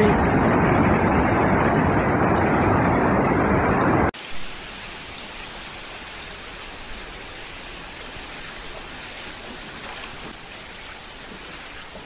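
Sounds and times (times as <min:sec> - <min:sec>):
floodwater torrent rushing: 0:00.0 - 0:12.0.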